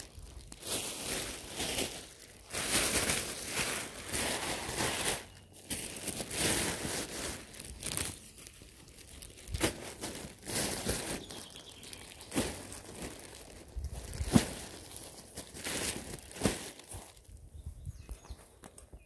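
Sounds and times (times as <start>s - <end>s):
plastic bag rustling and crinkling: 0.0s - 18.8s.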